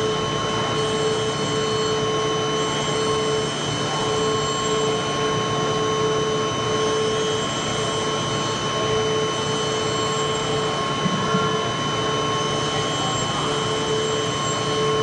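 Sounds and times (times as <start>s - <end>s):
low hum of milling tool: 0.0s - 15.0s
milling spindle high whine: 0.0s - 15.0s.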